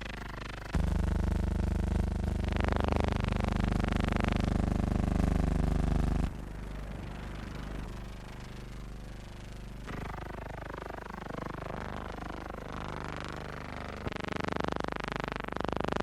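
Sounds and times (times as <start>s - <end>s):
motor-like pulsing drone: 0.0s - 14.5s.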